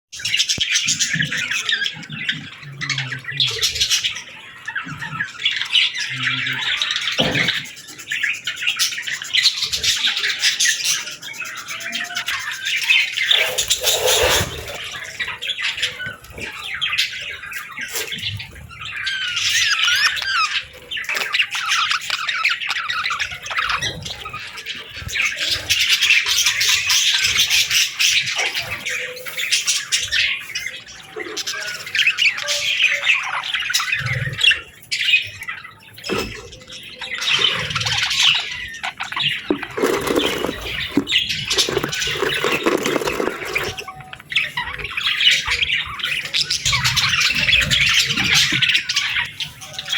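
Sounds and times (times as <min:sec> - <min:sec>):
budgerigars chattering and warbling: 0:00.2 - 0:49.9.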